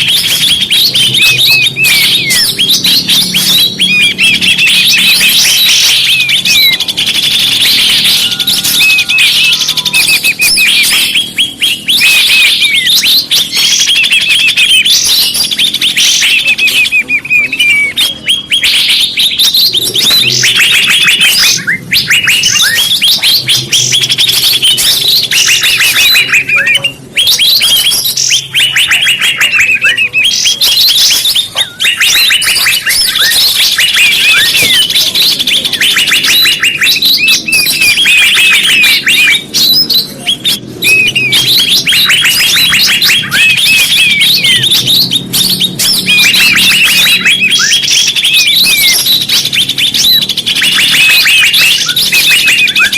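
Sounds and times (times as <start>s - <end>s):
songbirds chirping trills: 0.0s - 52.9s.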